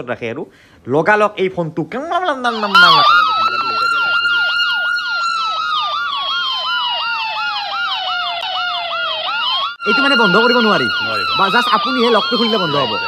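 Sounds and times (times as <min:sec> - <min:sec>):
phone siren alarm: 0:02.5 - 0:13.0.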